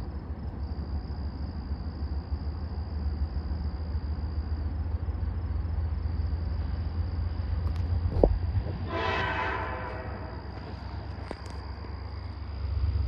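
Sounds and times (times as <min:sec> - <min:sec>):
insects droning: 0:00.0 - 0:13.0
train rumbling: 0:00.0 - 0:13.0.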